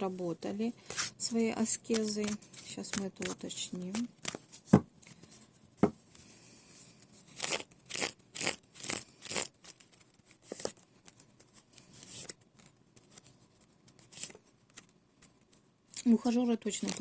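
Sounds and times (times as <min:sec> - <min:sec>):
cards being shuffled: 0:00.8 - 0:05.3, 0:07.2 - 0:16.1, 0:16.7 - 0:17.0.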